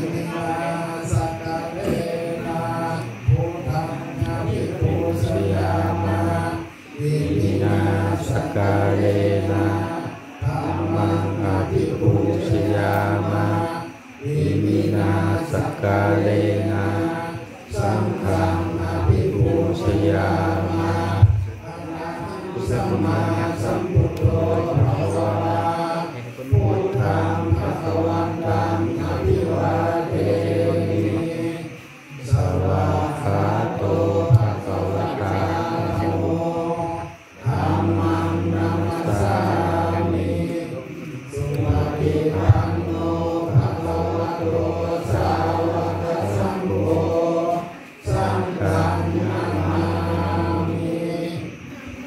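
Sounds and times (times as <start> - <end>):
monks chanting in unison: 0.0 - 52.0.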